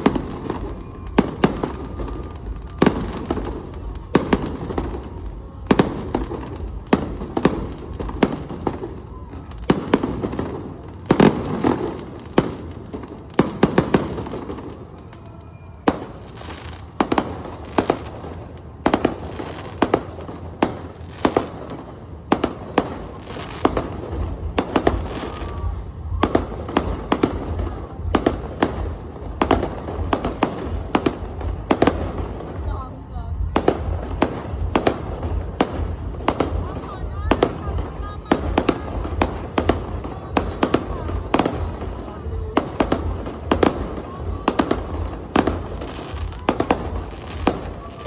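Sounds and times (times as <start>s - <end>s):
firework bangs: 0.0s - 48.0s
firework crackling: 0.0s - 48.0s.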